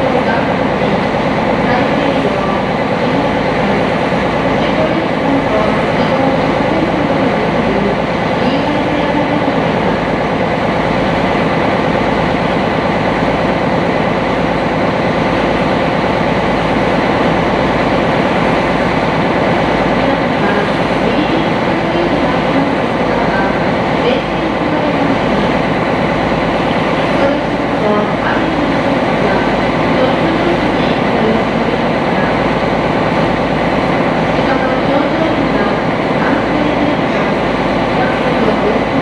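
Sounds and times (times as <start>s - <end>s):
boat engine running: 0.0s - 39.0s
water noise against hull: 0.0s - 39.0s.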